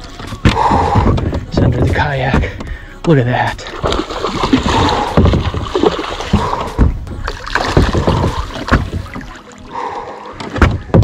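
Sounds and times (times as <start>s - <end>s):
water splashing against kayak: 0.0s - 11.0s.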